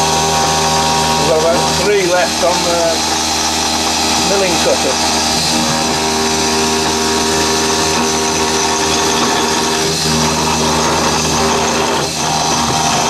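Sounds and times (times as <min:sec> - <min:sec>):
milling cutter rasping: 0:00.0 - 0:13.0
milling machine spindle hum: 0:00.0 - 0:13.0.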